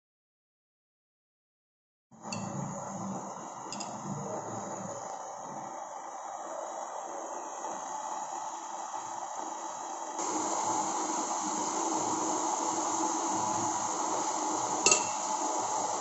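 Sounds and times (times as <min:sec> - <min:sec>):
water heating with steady hiss: 0:02.2 - 0:16.0.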